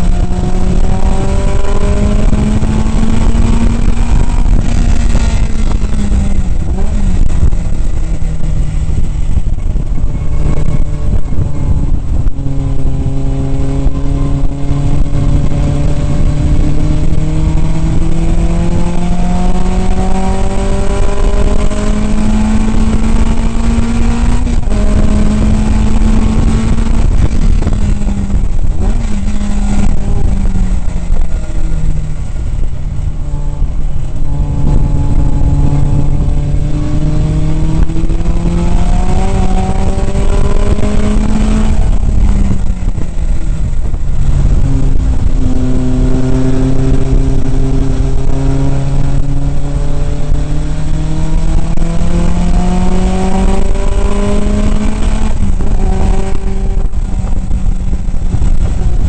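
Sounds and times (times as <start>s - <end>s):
car engine running hard: 0.0s - 59.0s
wind and road noise: 0.0s - 59.0s.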